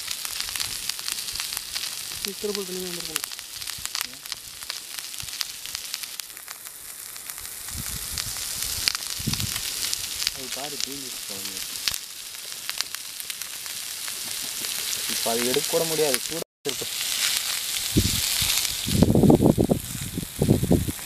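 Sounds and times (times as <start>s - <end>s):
fish sizzling on a griddle: 0.0s - 21.0s
sharp crackling pops: 0.0s - 21.0s.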